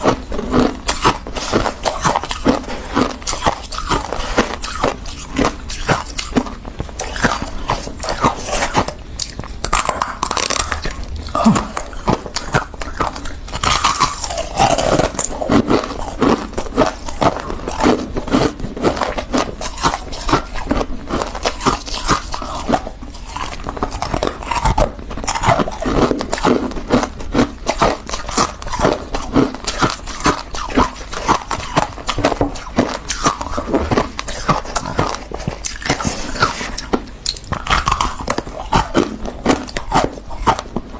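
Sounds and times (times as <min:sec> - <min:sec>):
chewing crunchy ice: 0:00.0 - 0:40.9
frost crunching: 0:00.0 - 0:40.9.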